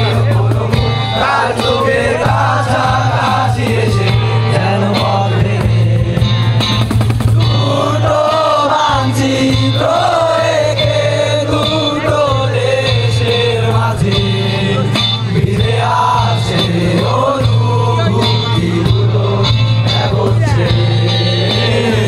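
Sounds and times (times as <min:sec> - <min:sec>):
acoustic guitars: 0:00.0 - 0:22.0
cajon drum: 0:00.0 - 0:22.0
men singing in unison: 0:00.0 - 0:22.0.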